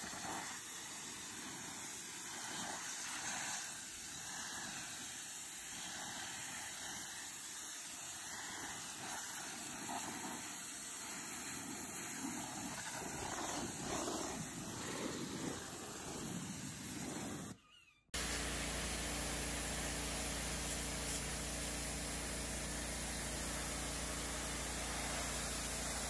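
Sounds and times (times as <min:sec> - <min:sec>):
pressure washer spraying water: 0:00.0 - 0:17.6, 0:18.2 - 0:26.0.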